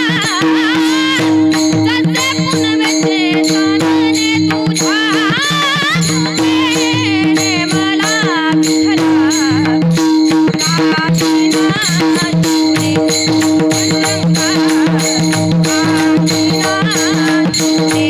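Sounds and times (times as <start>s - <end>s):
drum strokes: 0.0s - 18.0s
small hand cymbals: 0.0s - 18.0s
woman singing devotional melody: 0.0s - 18.0s.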